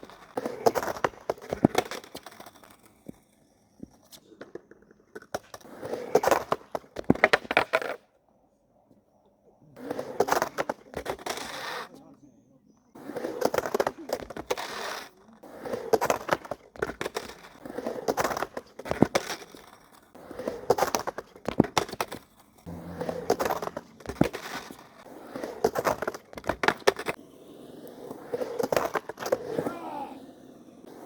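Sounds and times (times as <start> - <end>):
skateboard rolling on pavement: 0.0 - 8.1, 9.7 - 12.1, 12.9 - 31.0.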